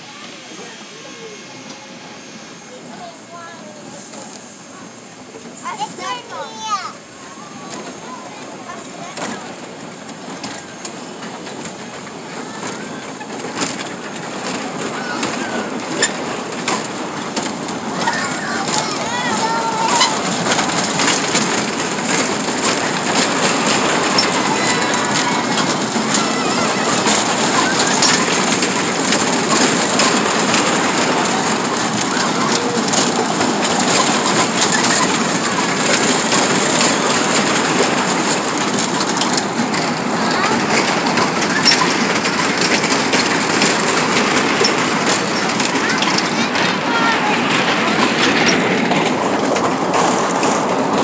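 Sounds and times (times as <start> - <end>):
amusement ride rumble: 0.0 - 51.0.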